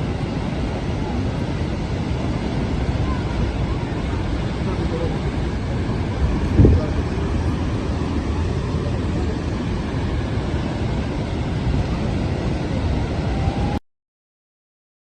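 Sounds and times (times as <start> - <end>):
waterfall roar: 0.0 - 13.8.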